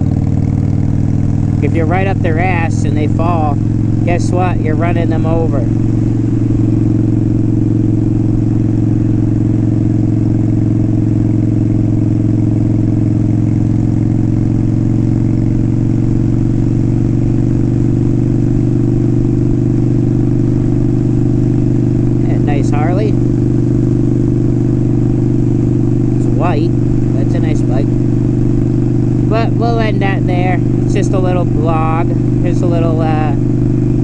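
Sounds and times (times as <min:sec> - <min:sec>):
motorcycle engine cruising: 0:00.0 - 0:34.0.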